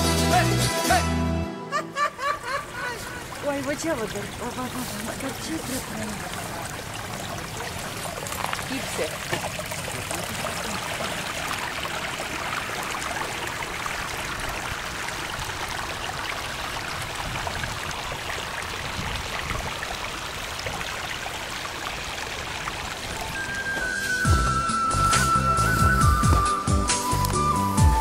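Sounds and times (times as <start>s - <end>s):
stream rushing over rock: 2.4s - 27.9s.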